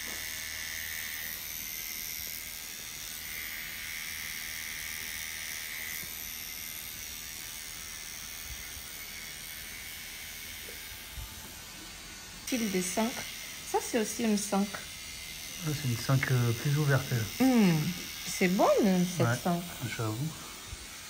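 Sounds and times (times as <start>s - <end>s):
tattoo machine whirring: 0.0s - 21.0s.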